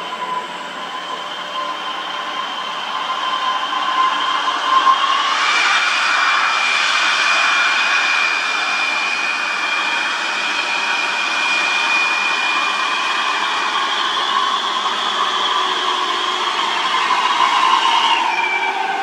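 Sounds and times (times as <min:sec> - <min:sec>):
high whine: 0:00.0 - 0:19.0.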